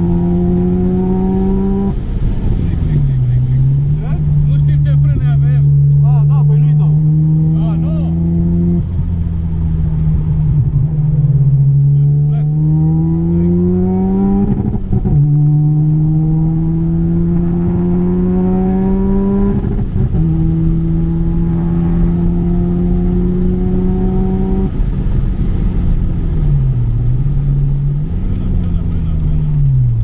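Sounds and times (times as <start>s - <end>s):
high turbo whine: 0.0s - 30.0s
rotary engine accelerating: 0.0s - 30.0s.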